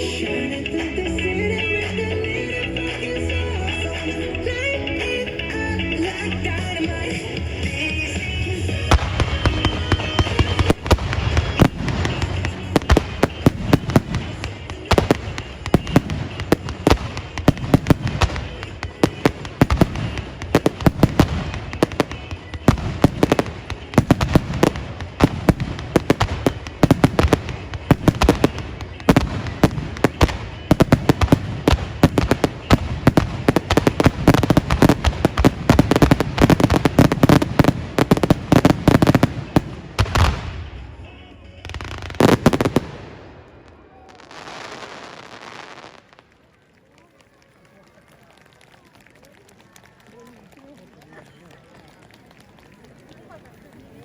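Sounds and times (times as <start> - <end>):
fireworks bangs and crackles: 6.8 - 54.0.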